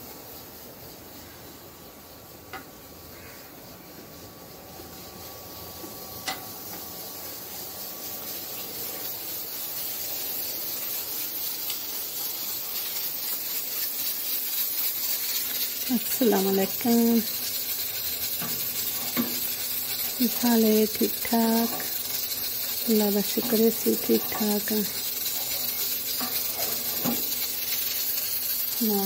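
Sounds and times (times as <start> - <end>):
steady hissing noise: 0.0 - 29.0.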